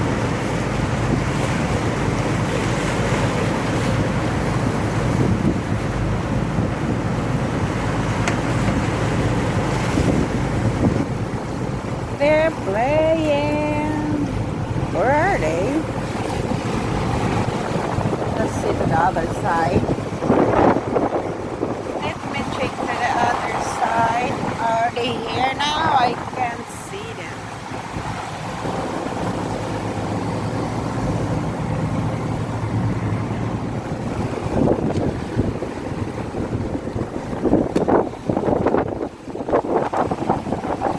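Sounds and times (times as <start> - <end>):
boat engine rumble: 0.0 - 40.9
water rushing past hull: 0.0 - 40.9
wind buffeting microphone: 0.0 - 40.9.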